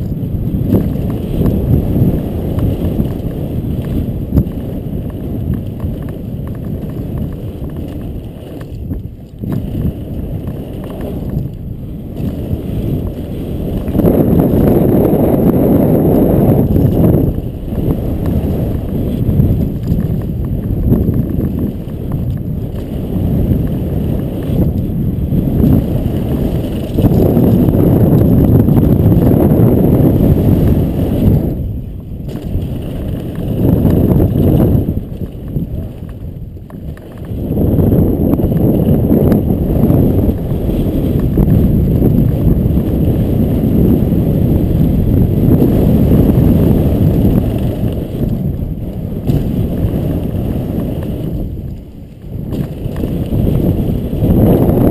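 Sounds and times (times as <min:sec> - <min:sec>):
bike tyres and frame rattling: 0:00.0 - 0:54.9
wind rushing over microphone: 0:00.0 - 0:54.9.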